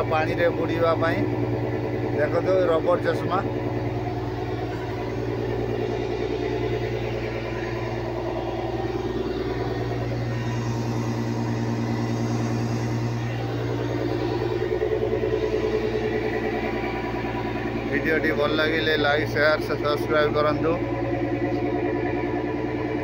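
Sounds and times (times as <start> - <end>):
boat diesel engine throbbing: 0.0 - 23.0.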